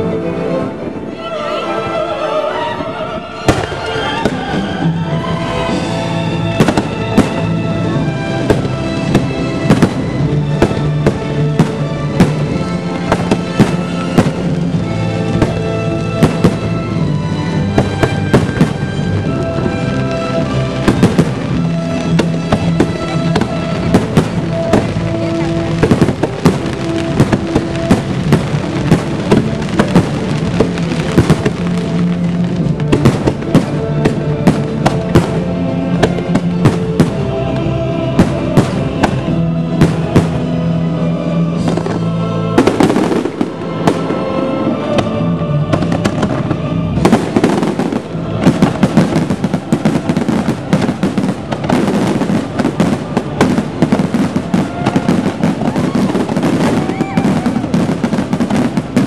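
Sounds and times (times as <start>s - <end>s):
music soundtrack: 0.0s - 59.0s
fireworks bursting and crackling: 3.4s - 59.0s.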